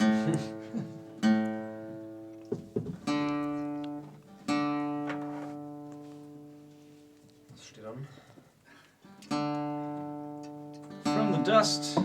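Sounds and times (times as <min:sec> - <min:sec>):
guitar chords strummed: 0:00.0 - 0:06.8, 0:09.1 - 0:12.0.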